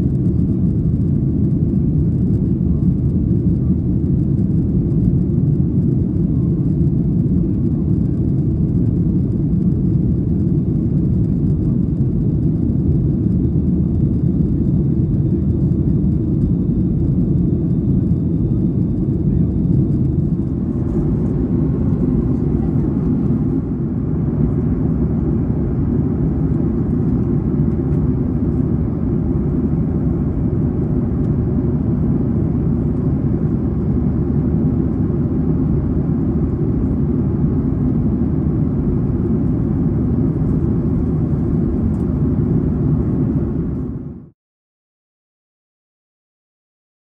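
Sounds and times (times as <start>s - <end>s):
airplane rumble in flight: 0.0s - 44.4s.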